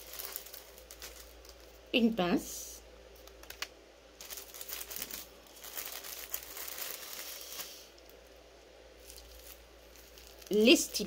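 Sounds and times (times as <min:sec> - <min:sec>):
plastic packaging crinkling: 0:00.0 - 0:02.0, 0:03.1 - 0:11.0.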